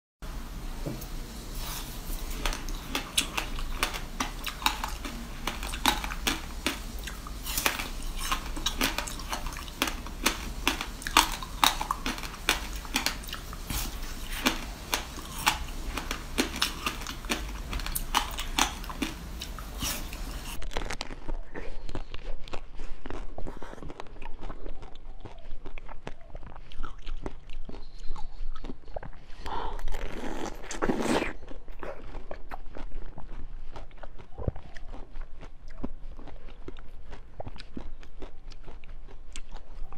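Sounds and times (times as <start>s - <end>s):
crunchy frozen food chewing: 1.6s - 39.9s
soft biting and chewing: 1.6s - 39.9s.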